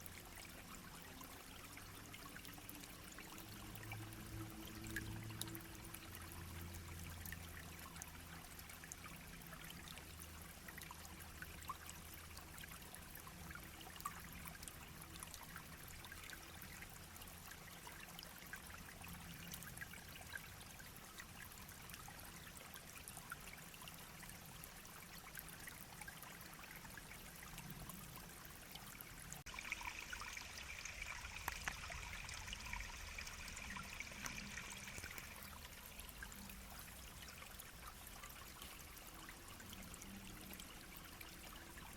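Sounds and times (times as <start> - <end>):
brook babbling: 0.0 - 41.9.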